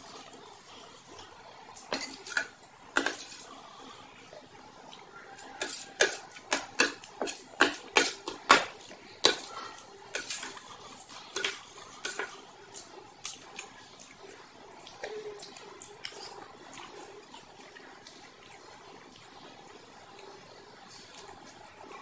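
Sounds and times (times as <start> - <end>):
wet food sounds: 0.0 - 22.0.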